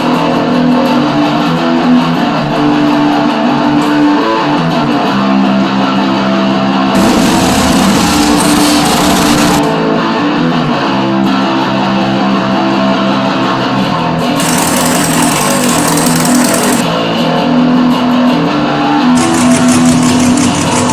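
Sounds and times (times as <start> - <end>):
electric guitar: 0.0 - 20.9
garage rock band playing: 0.0 - 20.9.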